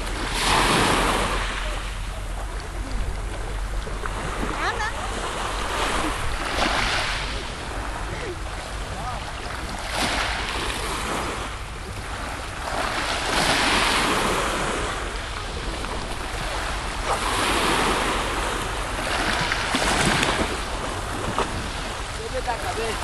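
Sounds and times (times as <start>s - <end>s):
small waves washing in: 0.0s - 23.0s
wind on microphone: 0.0s - 23.0s.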